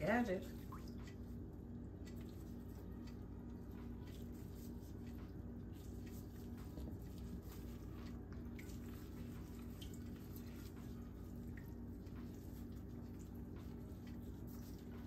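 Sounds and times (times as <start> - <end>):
faint drips: 0.0 - 15.0
low steady hum: 0.0 - 15.0
wet squishing of handled meat: 0.5 - 15.0.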